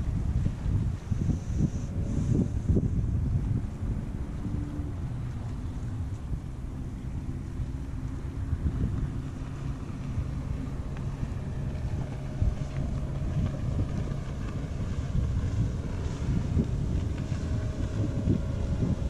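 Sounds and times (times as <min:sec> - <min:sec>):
motorboat engine running: 0:00.0 - 0:19.0
wind buffeting microphone: 0:00.0 - 0:19.0.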